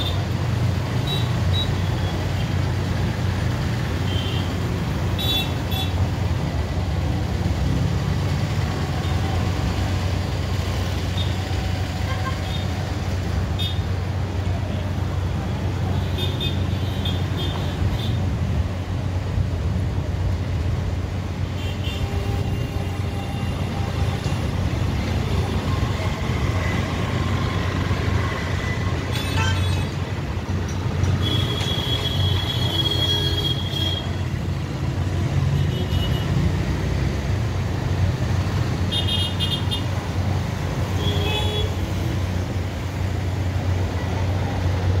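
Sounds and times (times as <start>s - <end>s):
motorcycles and cars passing: 0.0s - 45.0s.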